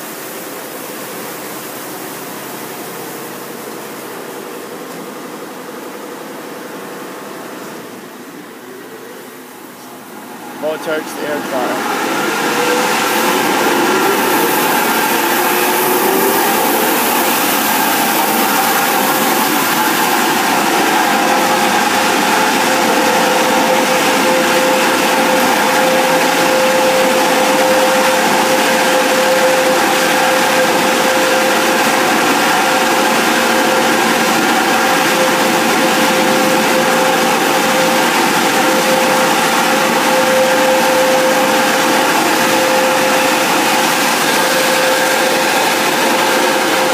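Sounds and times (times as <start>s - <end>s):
air dryer blowers rushing: 0.0s - 46.9s
steady whine: 0.0s - 46.9s.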